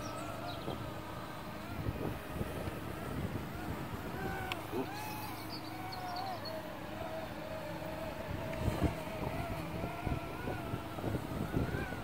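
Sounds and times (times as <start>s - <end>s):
drone motors whining: 0.0s - 12.0s
wind buffeting microphone: 0.0s - 12.0s.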